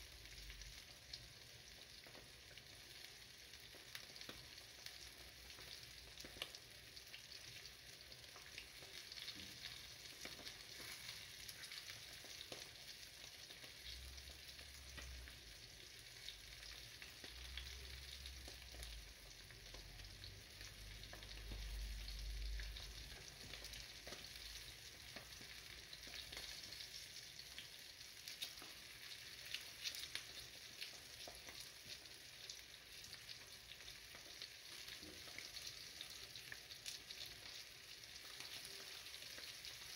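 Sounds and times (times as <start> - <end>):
fish sizzling in a frying pan: 0.0 - 39.9.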